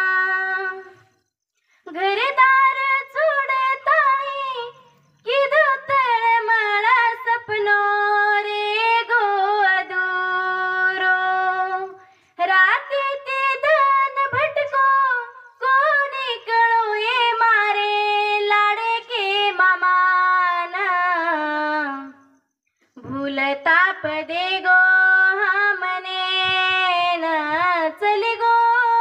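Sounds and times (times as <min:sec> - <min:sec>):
woman singing unaccompanied: 0:00.0 - 0:01.2, 0:01.9 - 0:22.2, 0:23.0 - 0:29.0.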